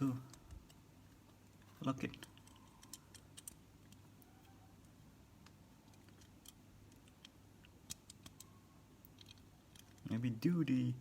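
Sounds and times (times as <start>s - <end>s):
plastic parts clicking: 0.0s - 10.2s
low steady hum: 0.0s - 11.0s.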